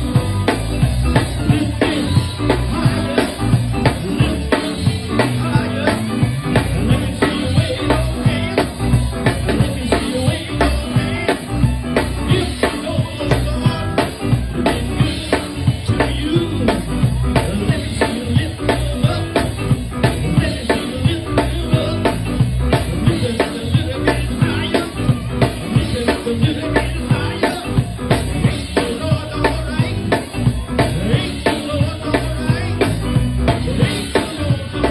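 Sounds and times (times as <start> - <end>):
live band playing a groove: 0.0 - 34.9
moving bass line: 0.0 - 34.9
steady drum beat: 0.0 - 34.9.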